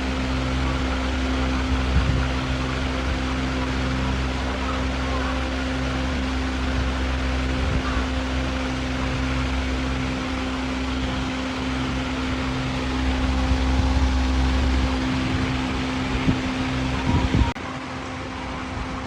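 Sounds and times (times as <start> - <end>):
motor hum with hiss: 0.0 - 19.0
quieter hum: 0.0 - 19.0.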